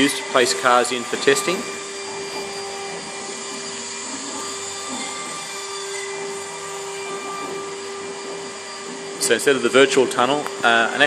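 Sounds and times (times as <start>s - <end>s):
mill cutter whining: 0.0s - 11.0s.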